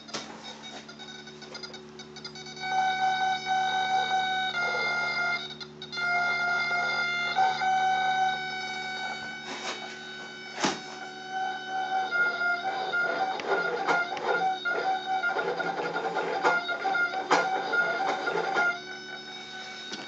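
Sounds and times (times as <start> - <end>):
wiper motor whine: 0.0 - 20.0.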